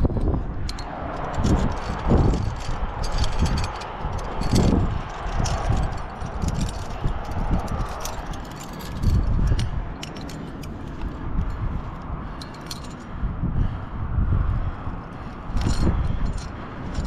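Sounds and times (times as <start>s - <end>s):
low rumbling microphone noise: 0.0s - 10.0s, 13.1s - 17.0s
metal climbing gear clinking: 0.0s - 13.2s, 15.1s - 17.0s.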